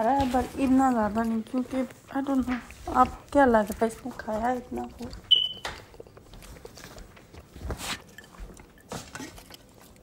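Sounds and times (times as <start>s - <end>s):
wet chewing: 0.0s - 10.0s.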